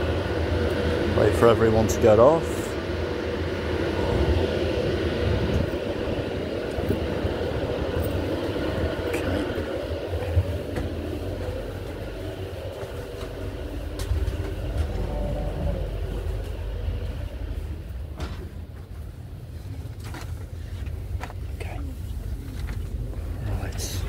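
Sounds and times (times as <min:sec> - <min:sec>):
train rumble and hum: 0:00.0 - 0:24.0.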